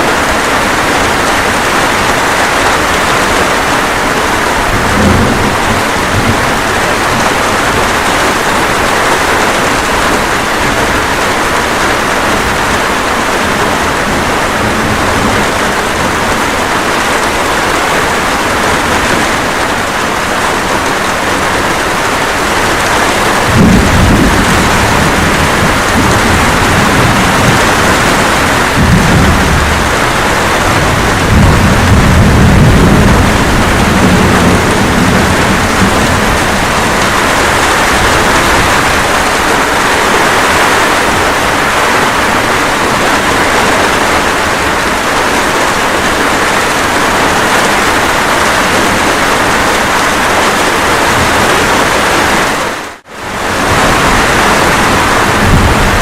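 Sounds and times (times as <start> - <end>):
steady rain: 0.0 - 56.0
low rolling thunder: 0.1 - 52.4, 53.3 - 56.0.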